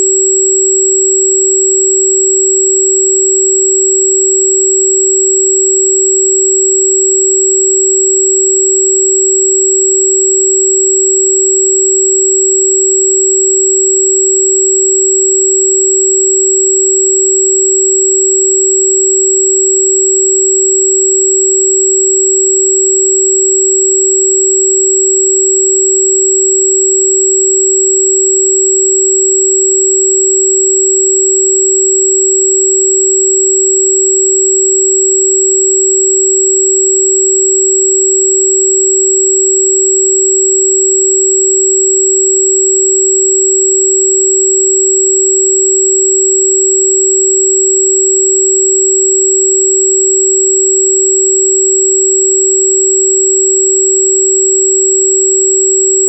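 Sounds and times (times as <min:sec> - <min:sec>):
pure sine tone: 0:00.0 - 0:56.0.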